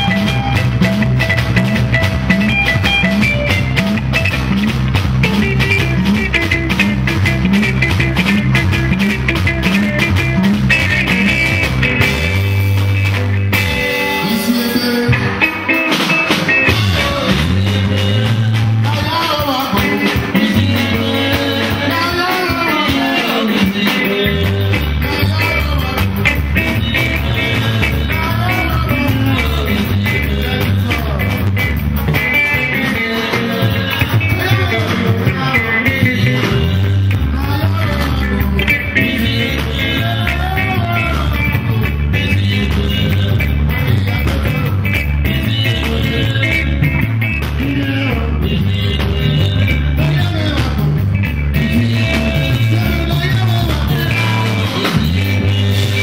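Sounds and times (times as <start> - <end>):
man singing: 0.0 - 12.2, 13.8 - 56.0
live rock band: 0.0 - 56.0.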